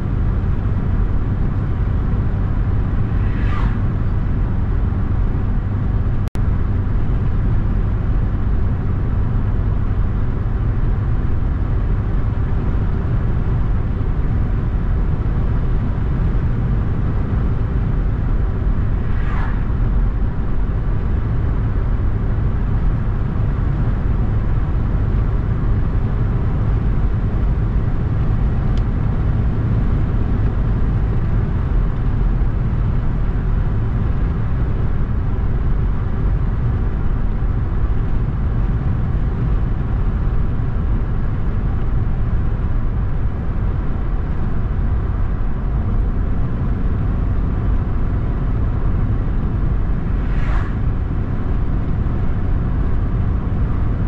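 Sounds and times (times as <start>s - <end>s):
car road noise: 0.0s - 54.0s.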